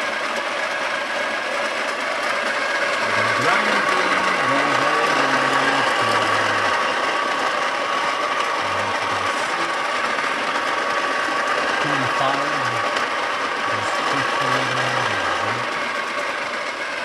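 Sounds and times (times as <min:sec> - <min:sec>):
coffee grinder motor whining: 0:00.8 - 0:17.0.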